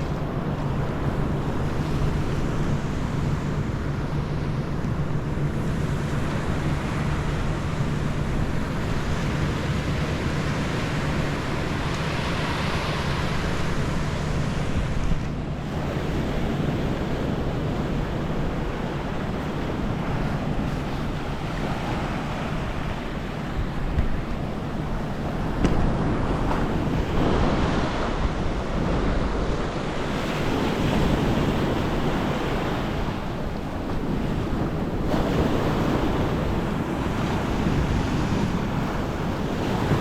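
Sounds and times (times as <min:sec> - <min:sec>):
sea surf washing onto beach: 0:00.0 - 0:40.0
wind on microphone: 0:00.0 - 0:40.0.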